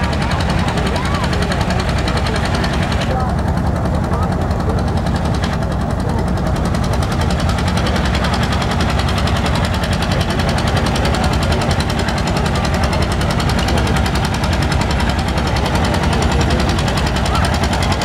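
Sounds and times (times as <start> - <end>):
tractor engine working under load: 0.0 - 18.0.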